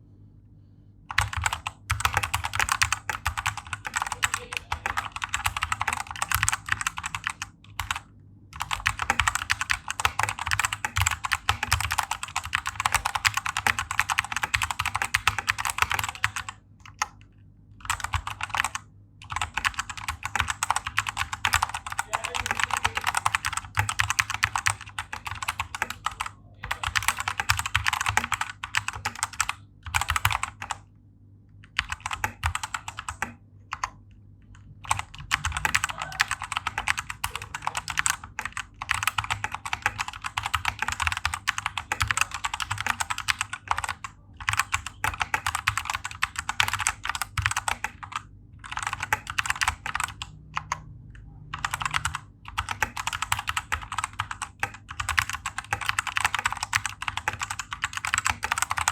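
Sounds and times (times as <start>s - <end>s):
mechanical keyboard typing: 1.1s - 30.9s, 31.6s - 58.9s.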